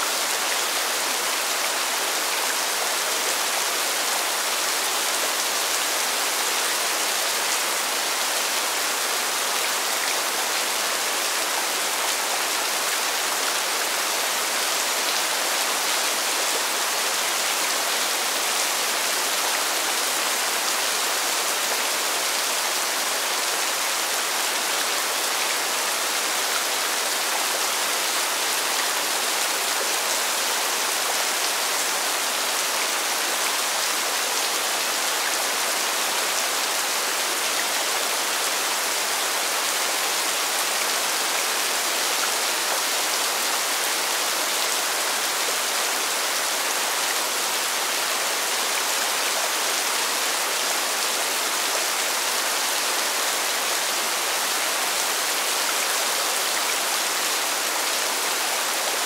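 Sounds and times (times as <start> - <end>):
rain falling on pavement: 0.1 - 59.0.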